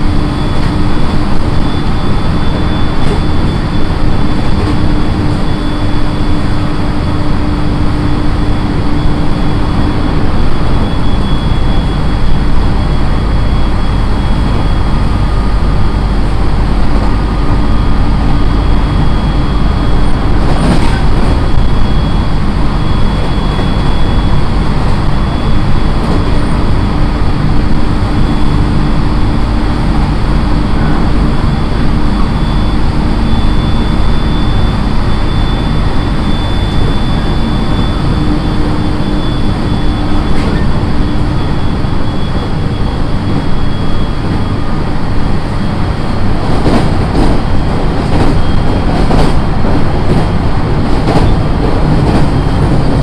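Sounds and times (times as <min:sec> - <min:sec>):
steady high tone: 0:00.0 - 0:53.0
train wheels rumbling on rail: 0:00.0 - 0:53.0.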